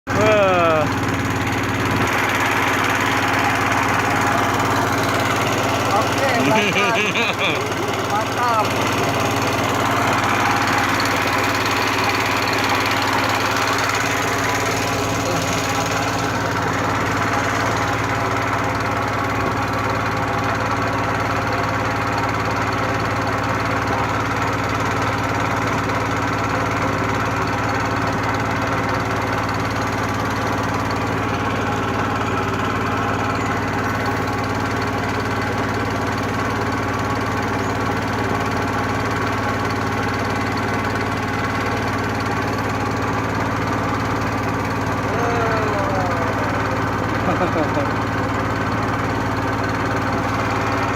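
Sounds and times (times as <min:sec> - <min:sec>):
small boat engine running: 0:00.0 - 0:50.9.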